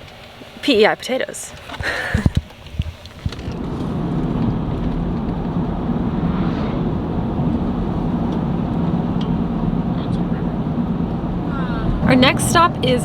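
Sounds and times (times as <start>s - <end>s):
van engine and road noise: 2.4s - 13.0s.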